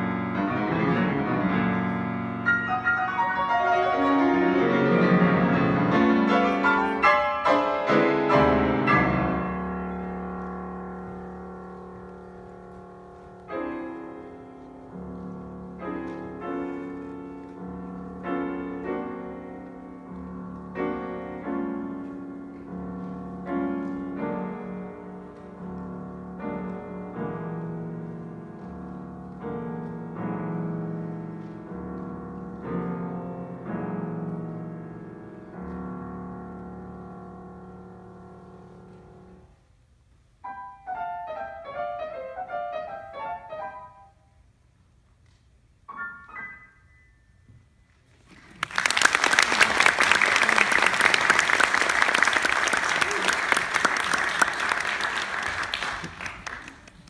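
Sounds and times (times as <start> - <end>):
solo piano chords: 0.0 - 44.6, 45.8 - 48.1.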